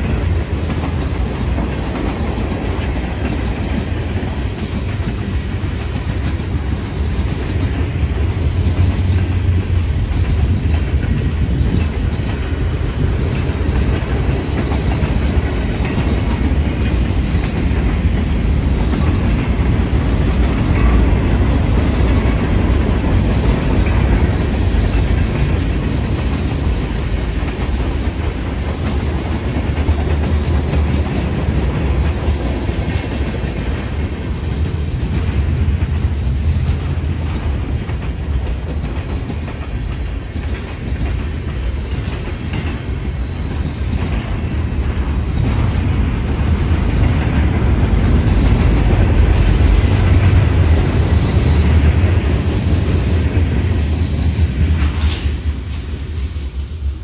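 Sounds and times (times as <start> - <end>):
wheels clicking over rails: 0.0 - 55.0
freight train rumbling past: 0.0 - 57.0.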